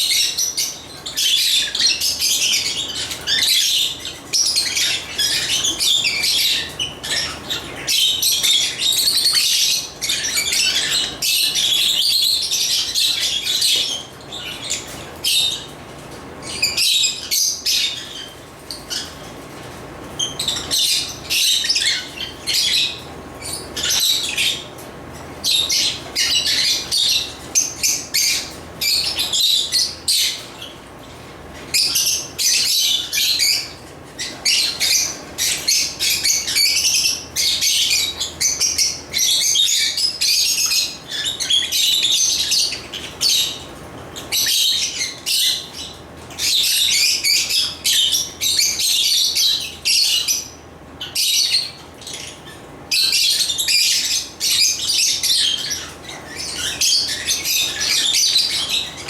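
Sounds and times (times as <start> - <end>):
lovebirds chirping and chattering: 0.0 - 59.0.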